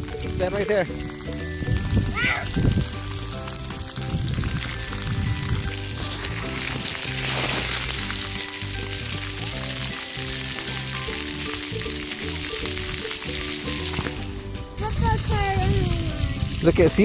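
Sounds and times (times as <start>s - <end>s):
background music: 0.0s - 17.0s
water jets spraying: 0.0s - 17.0s.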